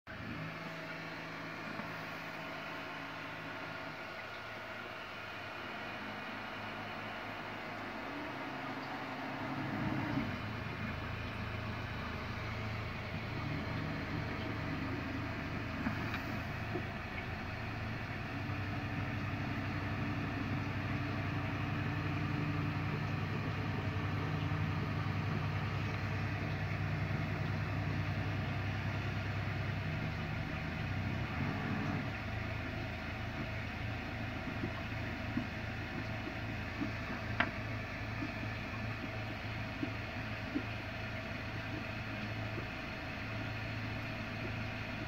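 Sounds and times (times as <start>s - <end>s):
low mechanical hum: 0.1s - 45.0s.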